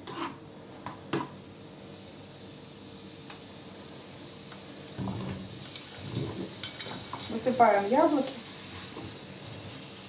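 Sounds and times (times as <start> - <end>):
butter sizzling in frying pan: 1.8 - 10.0.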